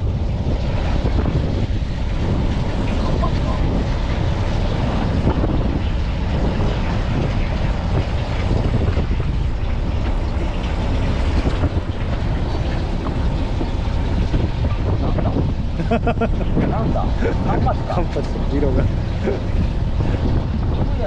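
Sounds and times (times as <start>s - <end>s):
boat engine rumbling: 0.0s - 21.0s
wind noise on microphone: 0.0s - 21.0s.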